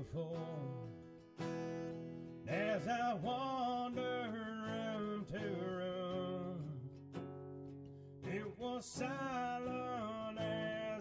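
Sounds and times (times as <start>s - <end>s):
man singing: 0.0s - 1.6s, 2.3s - 7.3s, 8.2s - 11.0s
acoustic guitar: 0.0s - 11.0s.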